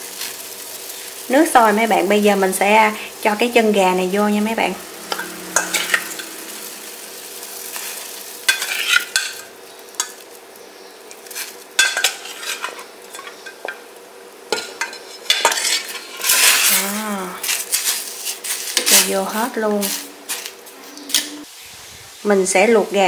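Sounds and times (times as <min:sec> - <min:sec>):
water boiling in a pot: 0:00.0 - 0:20.7.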